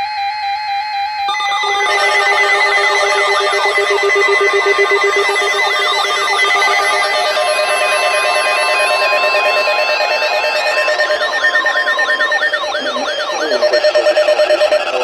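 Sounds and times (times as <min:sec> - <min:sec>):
fast-pulsing ringing tone: 0:01.3 - 0:15.0
pulsing higher tone: 0:01.3 - 0:15.0
steady beep tone: 0:01.3 - 0:15.0
wavering siren-like tones: 0:01.3 - 0:15.0.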